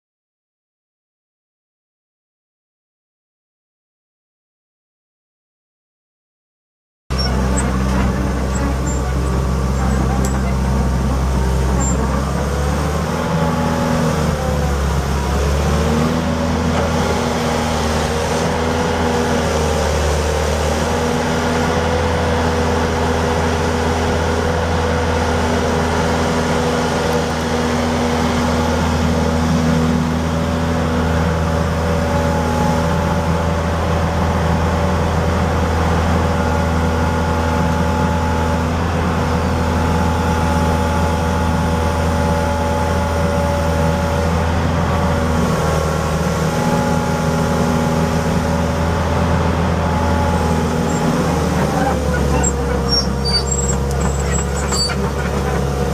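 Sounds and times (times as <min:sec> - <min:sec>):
excavator diesel engine droning: 0:07.1 - 0:55.9.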